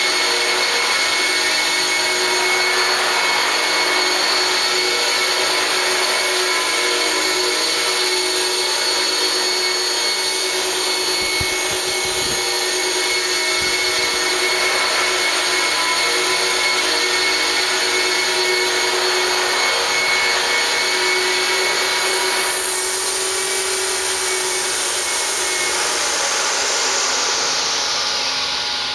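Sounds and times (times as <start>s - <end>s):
rotor rushing: 0.0s - 27.6s
rc helicopter motor whine: 0.0s - 28.9s.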